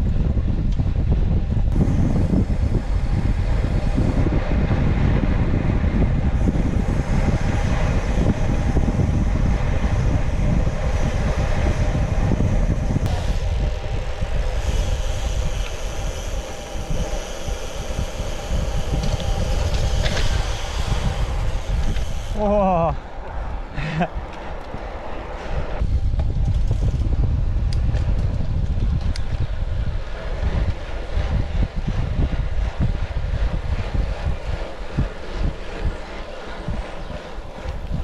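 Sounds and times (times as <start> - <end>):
bicycle tyres humming on asphalt: 0.0 - 38.0
wind rushing over microphone: 0.0 - 38.0.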